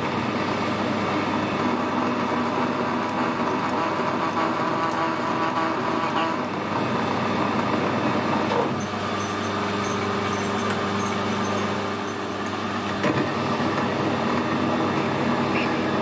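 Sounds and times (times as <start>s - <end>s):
metal lathe humming: 0.0s - 16.0s.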